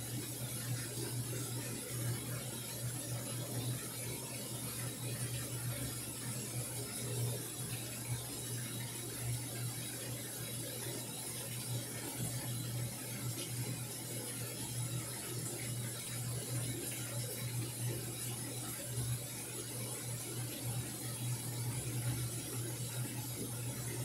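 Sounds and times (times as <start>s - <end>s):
water pouring into washing machine: 0.0s - 24.0s.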